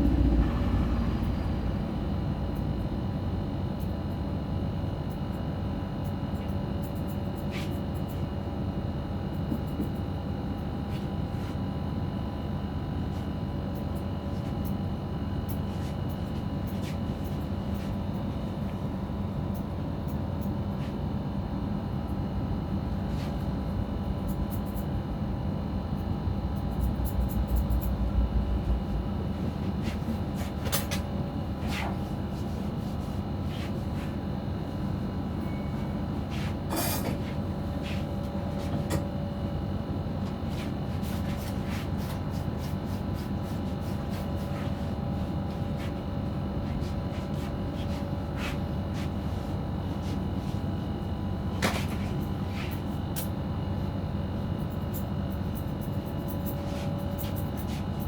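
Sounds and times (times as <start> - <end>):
steady hum with low rumble: 0.0 - 58.0.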